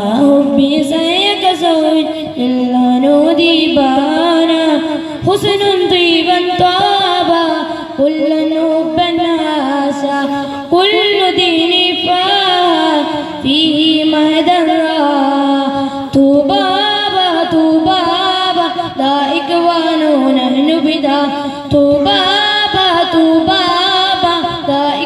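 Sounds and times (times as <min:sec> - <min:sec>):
boy singing into a microphone: 0:00.0 - 0:25.0.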